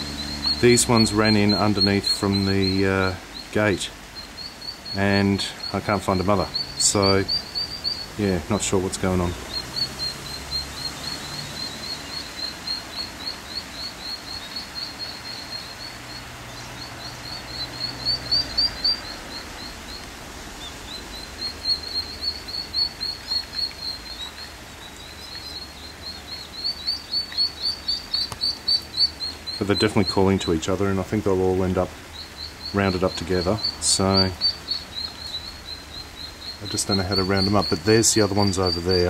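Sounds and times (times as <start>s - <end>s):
ducklings peeping: 0.0s - 39.0s.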